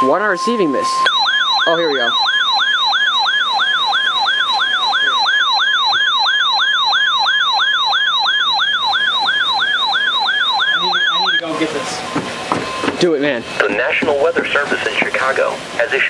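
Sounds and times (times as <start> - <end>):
fast warbling alert siren: 0.0 - 14.9.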